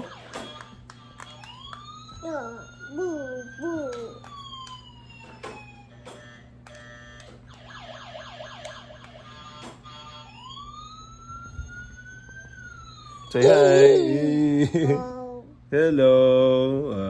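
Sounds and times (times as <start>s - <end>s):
electronic toy siren wailing: 0.0s - 14.4s.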